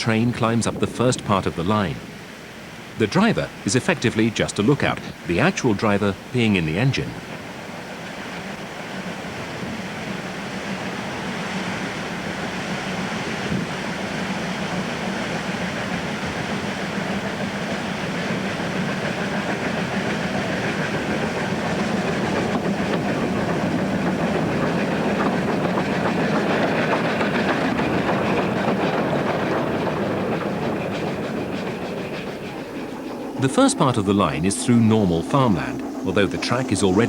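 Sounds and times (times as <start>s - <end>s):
fast train clatter: 0.0s - 37.0s
train climbing: 0.0s - 37.0s.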